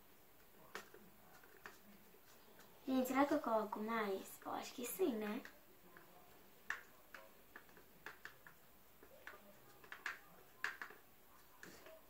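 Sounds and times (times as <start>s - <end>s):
stick stirring sticky paint: 0.0s - 12.0s.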